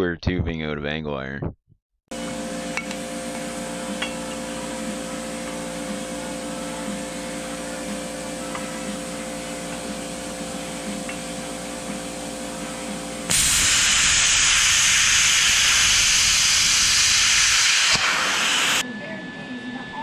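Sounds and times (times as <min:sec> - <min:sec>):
welder sizzling hiss: 0:02.1 - 0:18.8
machine hum: 0:02.1 - 0:20.0.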